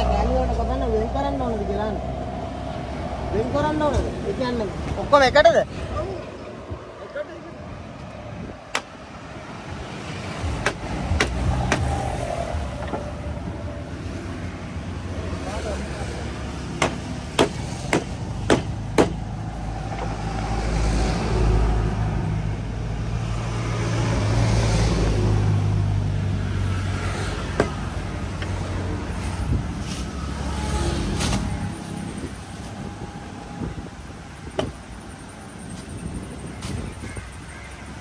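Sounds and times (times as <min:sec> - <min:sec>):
vehicle engine hum: 0:00.0 - 0:38.0.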